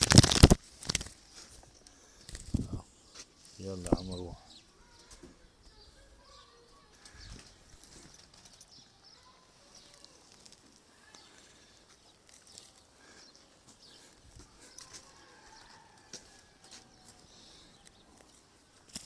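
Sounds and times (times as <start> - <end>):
sparrows chirping: 0.3 - 19.0.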